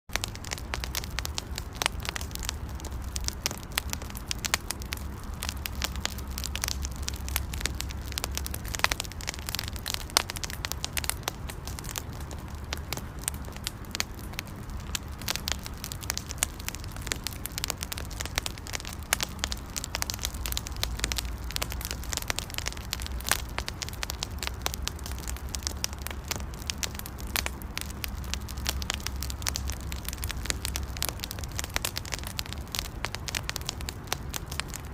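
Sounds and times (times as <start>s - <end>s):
campfire crackling and popping: 0.1s - 34.9s
low steady rumble: 0.1s - 34.9s.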